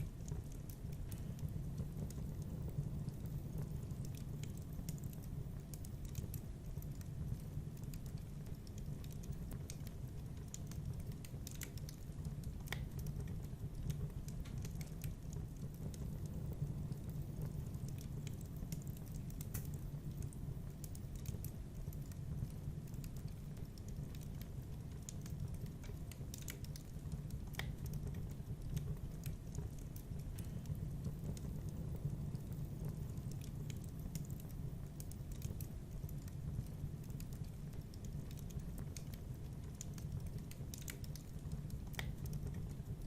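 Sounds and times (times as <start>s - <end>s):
fire crackling and snapping: 0.0s - 43.0s
rumble of flames: 0.0s - 43.0s.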